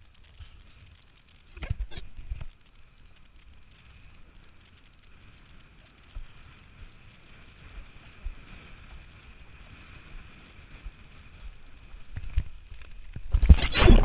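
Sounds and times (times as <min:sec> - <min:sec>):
muffled rush of wind and water: 0:00.0 - 0:14.0.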